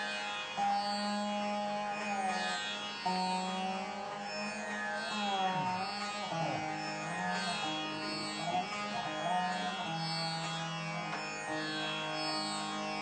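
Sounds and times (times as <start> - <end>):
plucked string instrument: 0.0 - 13.0
steady drone: 0.8 - 13.0.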